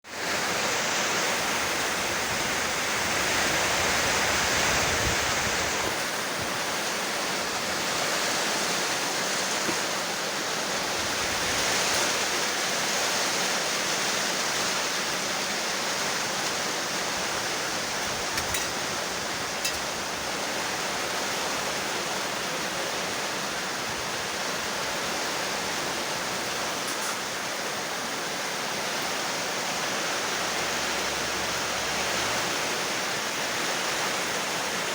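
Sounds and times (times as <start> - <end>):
steady rainfall hiss: 0.0 - 34.9.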